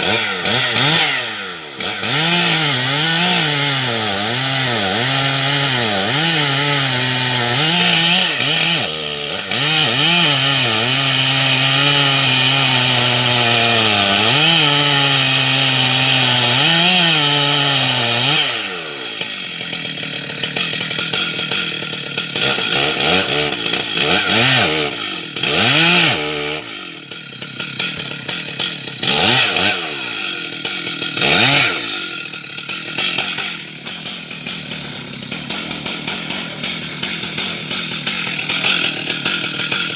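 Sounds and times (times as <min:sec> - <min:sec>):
chainsaw cutting wood: 0:00.0 - 0:39.9
chainsaw idling and revving: 0:00.0 - 0:39.9.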